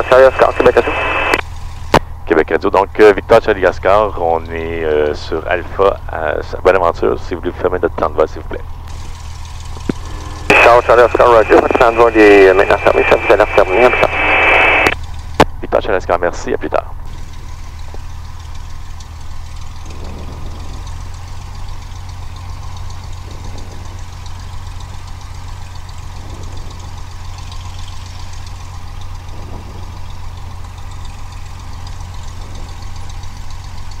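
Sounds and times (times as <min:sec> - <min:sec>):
propeller plane engine drone: 0:00.0 - 0:34.0.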